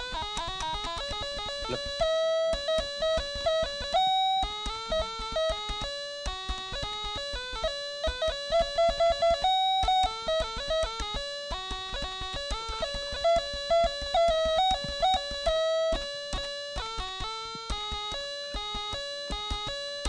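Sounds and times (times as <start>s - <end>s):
plucked guitar-like melody: 0.0s - 20.0s.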